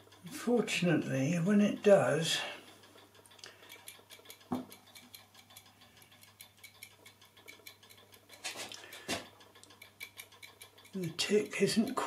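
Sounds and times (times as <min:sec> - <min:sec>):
clock ticking rapidly: 0:00.0 - 0:12.0.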